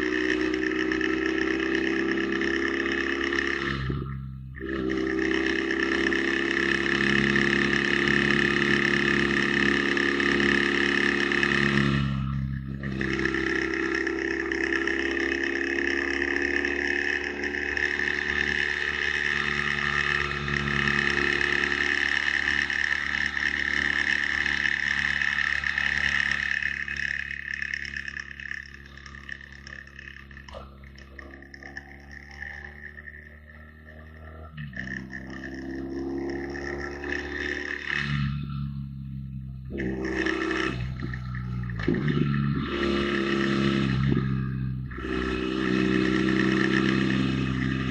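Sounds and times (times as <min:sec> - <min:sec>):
motorcycle engine drone: 0:00.0 - 0:47.9.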